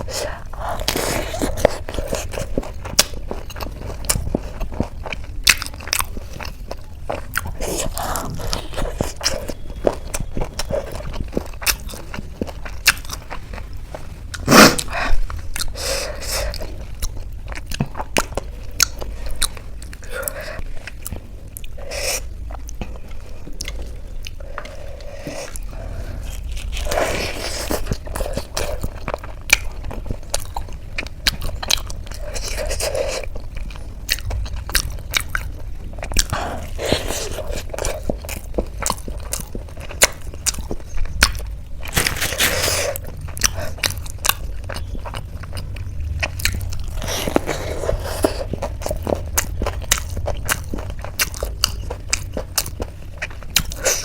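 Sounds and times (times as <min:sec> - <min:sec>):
chewing crisp snacks: 0:00.0 - 0:54.0.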